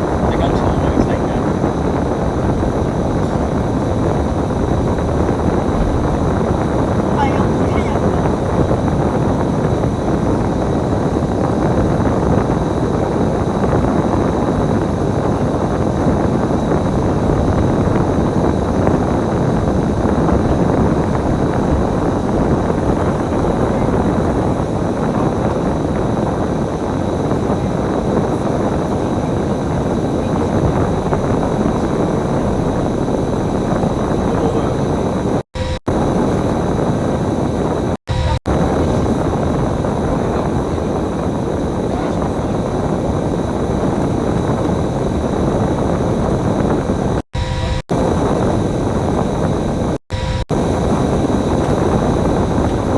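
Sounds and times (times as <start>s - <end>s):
bus engine and road noise: 0.0s - 52.9s.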